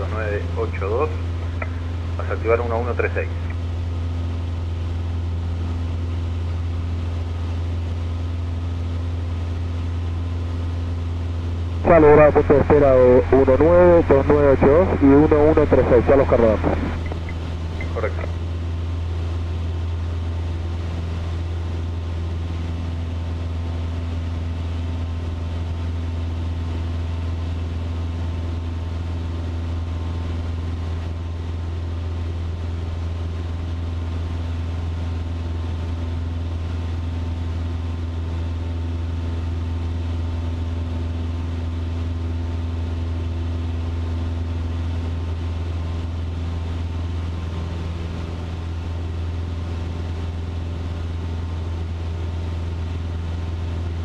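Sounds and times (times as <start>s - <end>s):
airplane engine droning in cabin: 0.0s - 54.0s.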